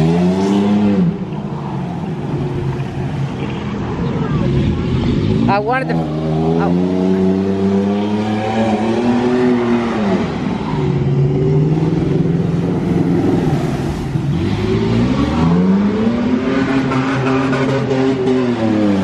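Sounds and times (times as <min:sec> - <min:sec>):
truck engine revving: 0:02.2 - 0:19.0.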